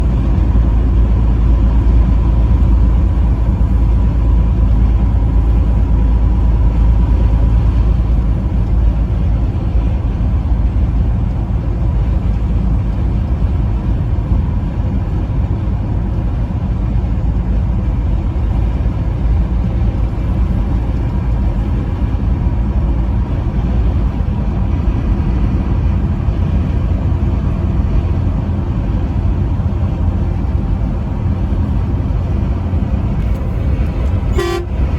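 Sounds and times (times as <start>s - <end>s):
truck engine and road rumble: 0.0s - 34.9s.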